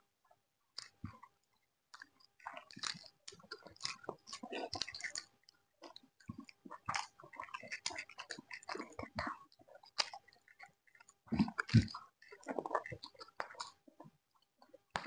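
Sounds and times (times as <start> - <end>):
chewing and smacking mouth: 0.7 - 15.0.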